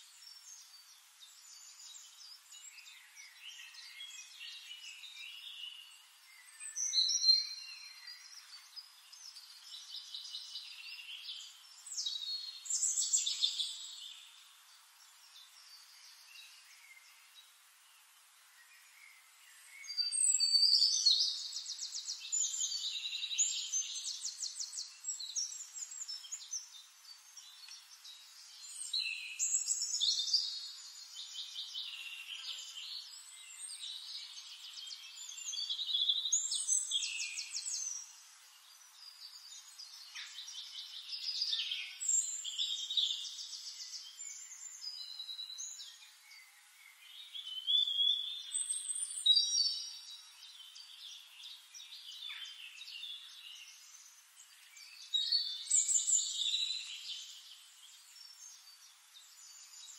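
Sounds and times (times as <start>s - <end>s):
songbird trilling and chirping: 0.0s - 17.2s, 18.9s - 59.9s.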